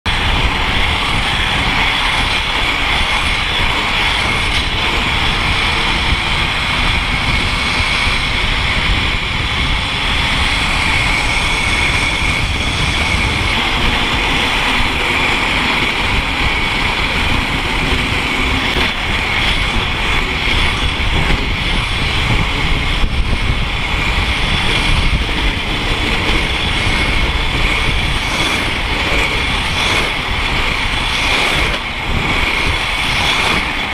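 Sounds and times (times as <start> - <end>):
wind rushing over microphone: 0.0 - 33.9
skate wheels rolling on asphalt: 0.1 - 33.9
steady high whine: 0.1 - 33.9.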